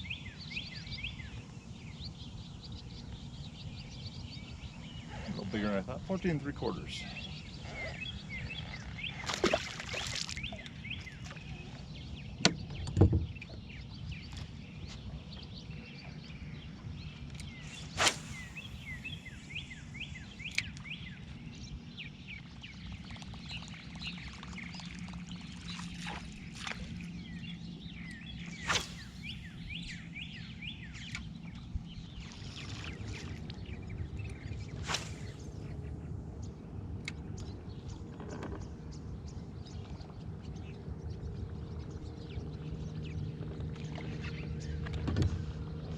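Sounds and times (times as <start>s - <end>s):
birds chirping: 0.0s - 45.9s
low steady hum: 0.0s - 45.9s.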